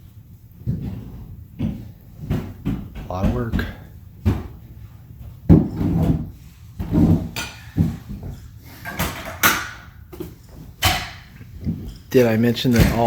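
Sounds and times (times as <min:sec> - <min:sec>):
dull thumps and knocks: 0:00.6 - 0:12.1.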